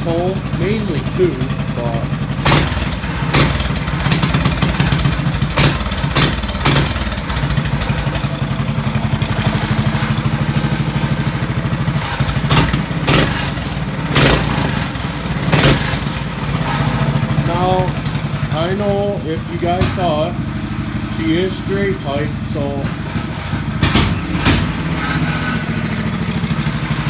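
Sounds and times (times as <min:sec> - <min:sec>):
sharp exhaust cracks: 0:00.0 - 0:27.0
small engine idling unevenly: 0:00.0 - 0:27.0.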